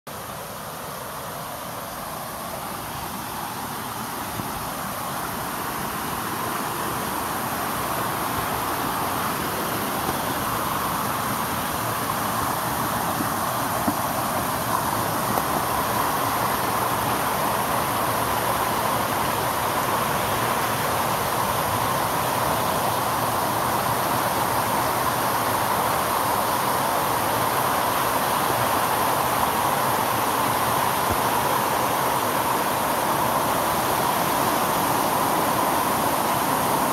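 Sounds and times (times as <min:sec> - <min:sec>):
water rushing over rocks: 0:00.1 - 0:36.9.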